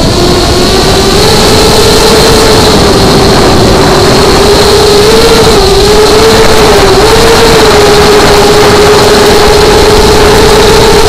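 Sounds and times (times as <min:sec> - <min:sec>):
drone motors whining: 0:00.0 - 0:11.0
loud rushing hiss: 0:00.0 - 0:11.0.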